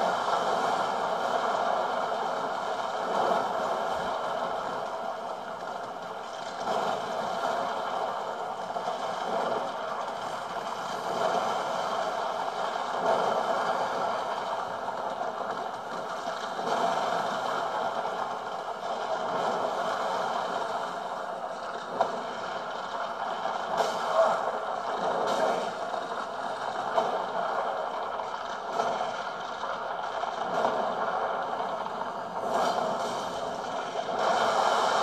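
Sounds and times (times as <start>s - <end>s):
game sound through laptop speakers: 0.0s - 35.0s.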